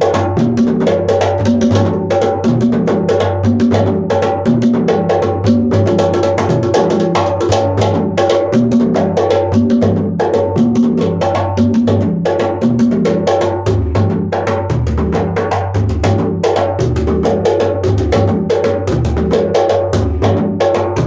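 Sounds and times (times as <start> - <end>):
hand drums playing fast rhythm: 0.0 - 21.0.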